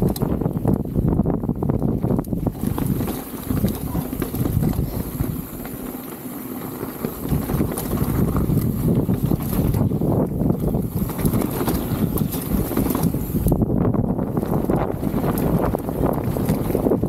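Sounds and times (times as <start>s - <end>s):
bike rattling: 0.0s - 17.0s
bike tyres rumbling on dirt: 0.0s - 17.0s
wind buffeting microphone: 0.0s - 17.0s.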